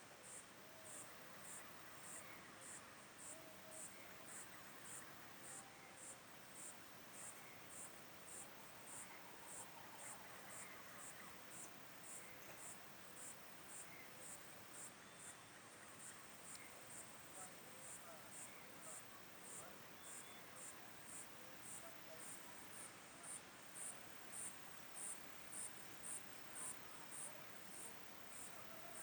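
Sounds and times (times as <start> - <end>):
faint background hiss: 0.0 - 29.0
insect chirping: 0.2 - 29.0.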